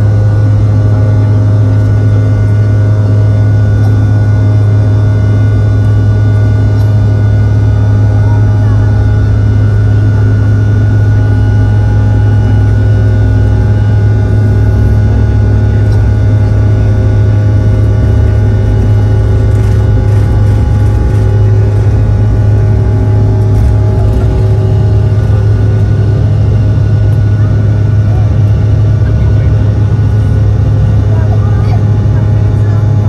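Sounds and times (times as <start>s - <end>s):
jet engines droning and whining: 0.0s - 33.0s
wheels rumbling on runway: 0.0s - 33.0s.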